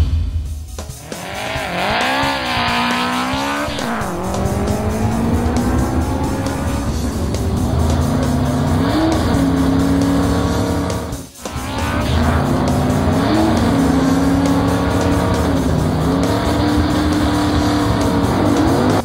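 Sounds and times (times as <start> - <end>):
background music: 0.0 - 19.0
cartoon race car engine: 0.9 - 19.0.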